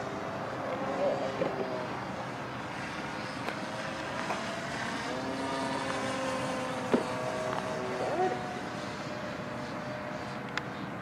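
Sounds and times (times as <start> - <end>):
model airplane motor buzzing: 0.0 - 11.0.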